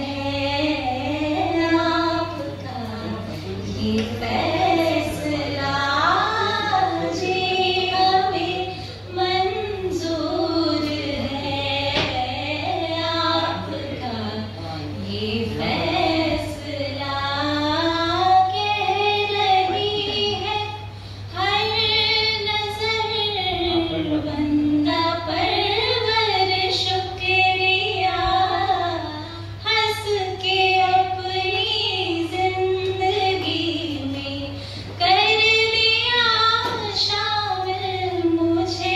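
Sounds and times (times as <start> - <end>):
woman singing unaccompanied: 0.0 - 38.9.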